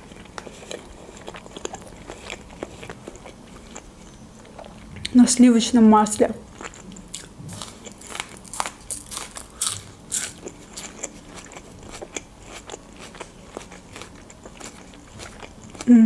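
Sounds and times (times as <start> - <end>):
crunchy chewing of onion: 0.0 - 5.1, 6.2 - 16.0.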